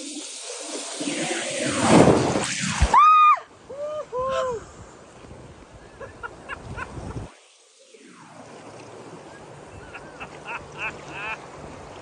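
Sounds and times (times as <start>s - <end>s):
river current rushing and lapping: 0.0s - 12.0s.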